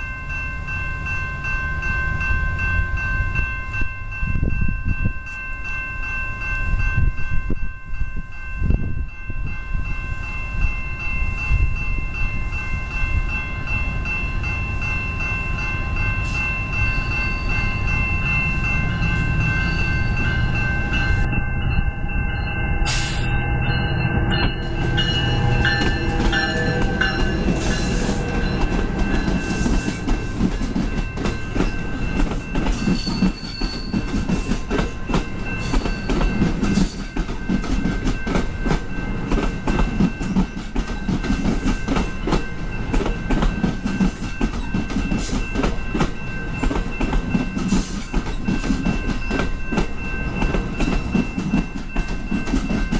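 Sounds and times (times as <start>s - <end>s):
steady high tones: 0.0s - 52.9s
train wheels rumbling on rails: 0.0s - 52.9s.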